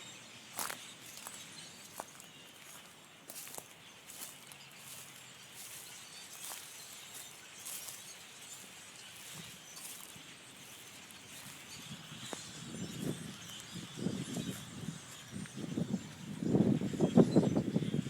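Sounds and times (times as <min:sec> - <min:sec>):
flock of blackbirds chattering: 0:00.0 - 0:18.0.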